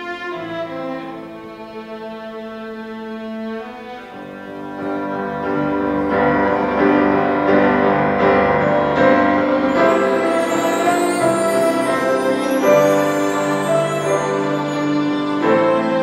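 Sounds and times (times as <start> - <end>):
strings and keyboard ensemble: 0.0 - 16.0.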